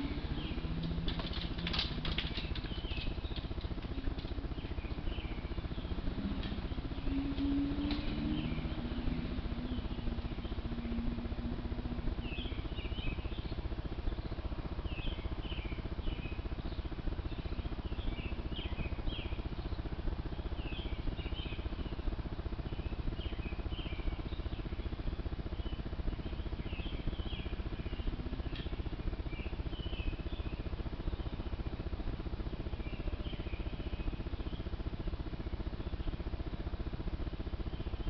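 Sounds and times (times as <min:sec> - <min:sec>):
background hiss and hum: 0:00.0 - 0:38.0
low drone: 0:00.0 - 0:38.0.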